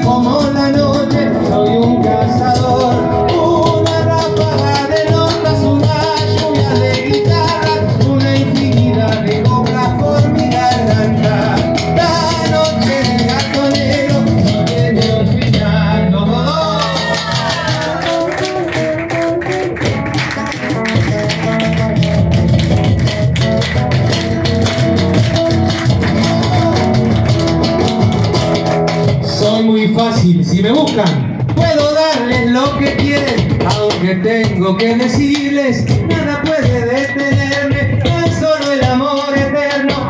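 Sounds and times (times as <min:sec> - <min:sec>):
acoustic guitar: 0:00.0 - 0:40.0
bass drum: 0:00.0 - 0:40.0
cajon: 0:00.0 - 0:40.0.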